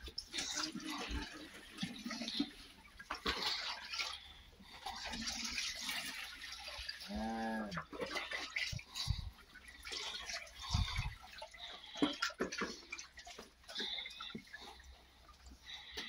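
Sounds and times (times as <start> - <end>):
calves licking and slurping: 0.0 - 16.0.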